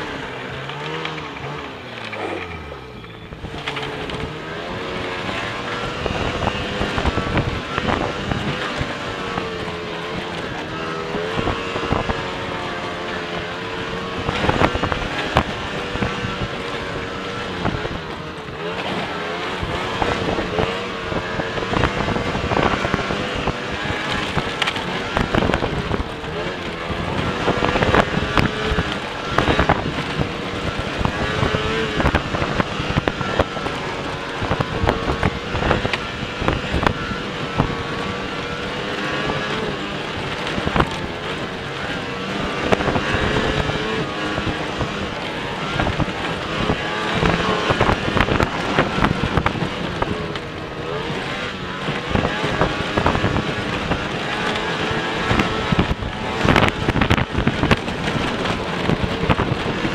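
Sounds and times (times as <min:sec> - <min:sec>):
snowmobile engine whining: 0:00.0 - 0:59.9.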